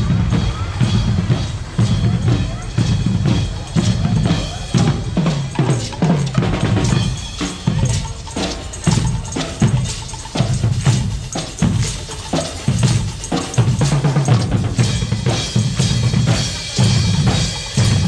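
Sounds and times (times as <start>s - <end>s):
bass drum beating march rhythm: 0.0s - 18.0s
snare drum beating march rhythm: 0.0s - 18.0s.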